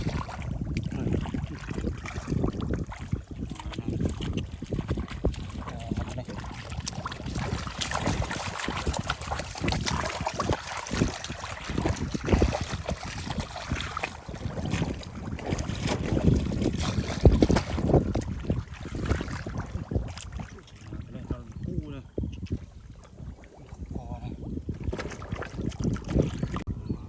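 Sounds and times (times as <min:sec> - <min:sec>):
water splashing and sloshing: 0:00.0 - 0:26.7.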